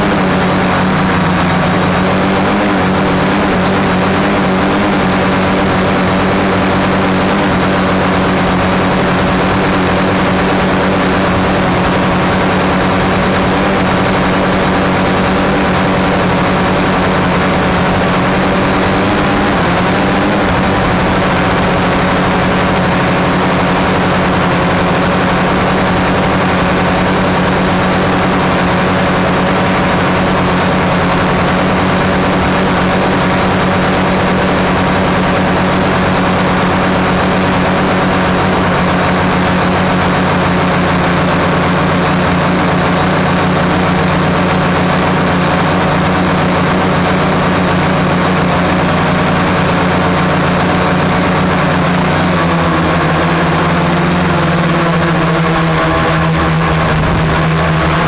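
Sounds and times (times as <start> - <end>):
drone propellers droning: 0.0 - 58.0.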